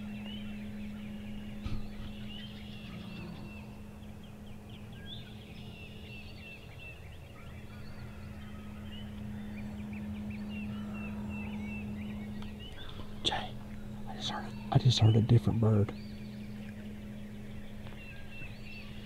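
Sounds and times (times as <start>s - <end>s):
distant turkeys gobbling: 0.0s - 19.0s
high bird chirps: 0.0s - 19.0s
steady low hum: 0.0s - 19.0s.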